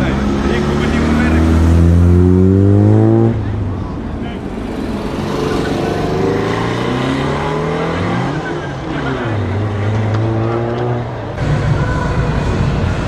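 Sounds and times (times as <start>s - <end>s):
car engine and exhaust revving: 0.0s - 13.0s.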